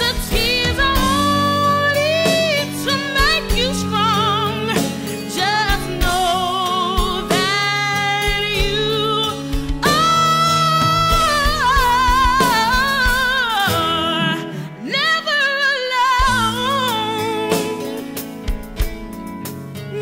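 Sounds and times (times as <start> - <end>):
person singing with vibrato: 0.0 - 18.3
instrumental backing: 0.0 - 20.0.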